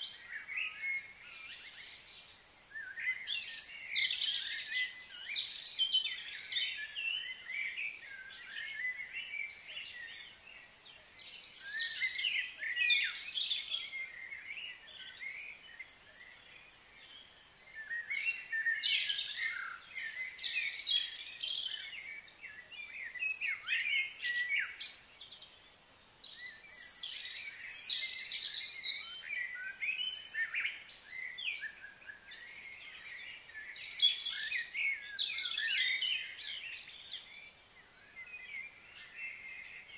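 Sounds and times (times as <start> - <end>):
faint steady hiss: 0.0 - 39.9
wild birds chirping: 0.0 - 39.9.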